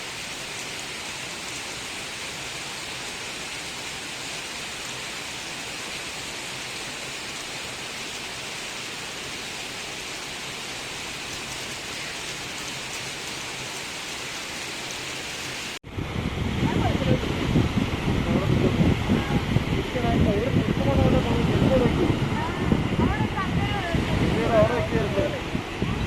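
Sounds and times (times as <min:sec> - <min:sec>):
hiss of falling water: 0:00.0 - 0:26.0.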